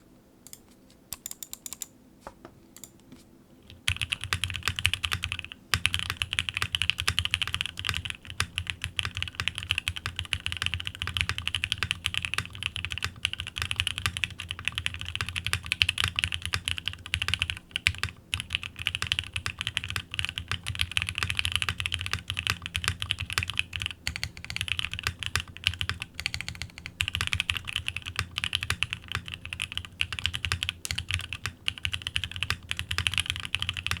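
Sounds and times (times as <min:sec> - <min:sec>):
mechanical keyboard typing: 0:00.4 - 0:01.9, 0:03.7 - 0:34.0.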